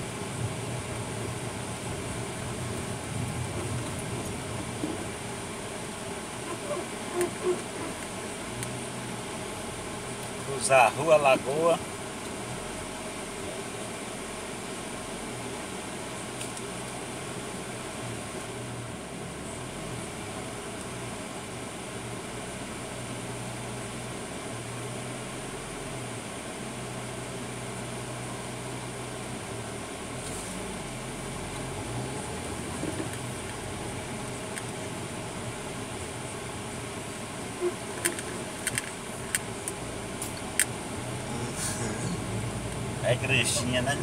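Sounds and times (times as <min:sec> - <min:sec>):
vehicle engine hum in cabin: 0:00.0 - 0:44.0.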